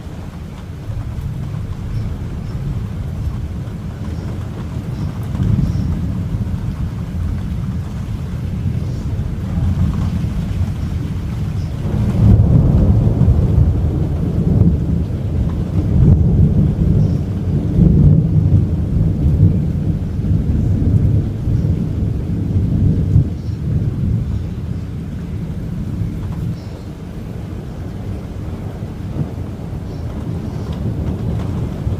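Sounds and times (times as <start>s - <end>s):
thunder rumbling: 0.0s - 31.9s.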